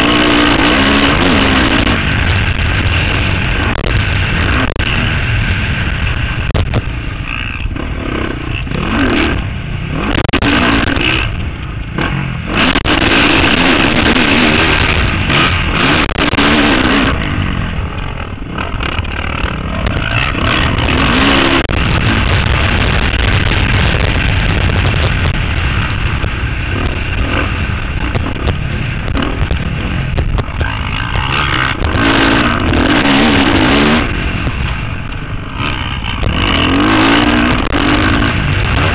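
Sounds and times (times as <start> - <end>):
motocross bike engine revving: 0.0 - 38.9
wind rush: 0.0 - 38.9.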